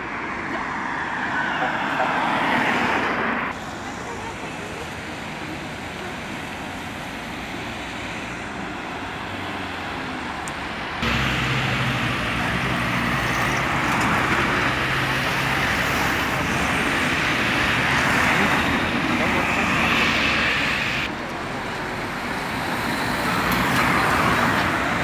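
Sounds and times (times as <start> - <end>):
close vehicle engine hum: 0.0 - 25.0
street traffic hum: 0.0 - 25.0.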